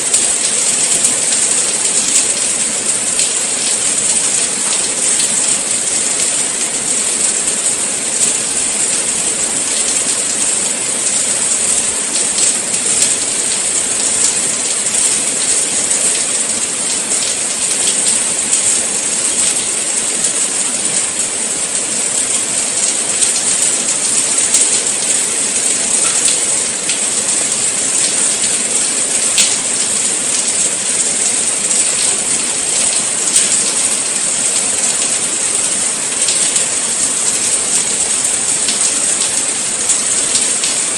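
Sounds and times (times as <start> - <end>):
steady rain falling: 0.0 - 40.9
raindrop ticks: 0.1 - 40.9.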